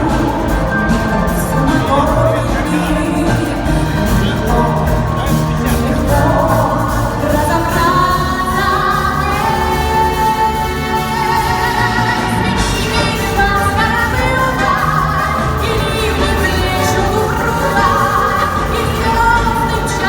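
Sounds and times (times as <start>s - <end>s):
band playing pop song: 0.0s - 20.0s
person singing: 0.0s - 20.0s.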